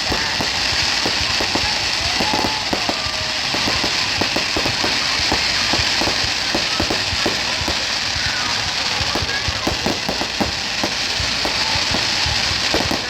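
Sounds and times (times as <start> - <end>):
fireworks crackling: 0.0 - 13.0
steady hiss: 0.0 - 13.0.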